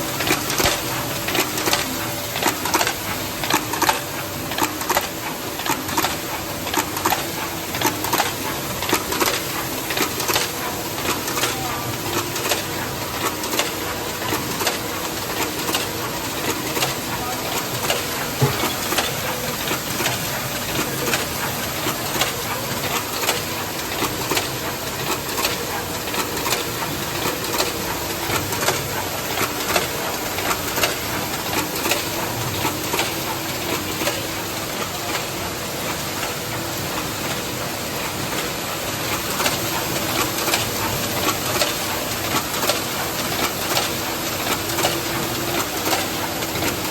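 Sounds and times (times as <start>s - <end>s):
welding machine hissing and clicking: 0.1s - 46.9s.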